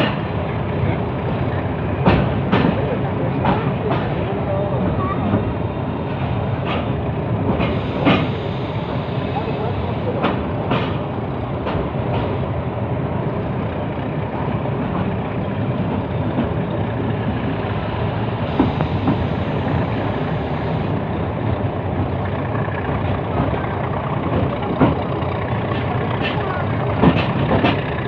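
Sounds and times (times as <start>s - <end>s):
passenger train rumbling: 0.0s - 28.0s.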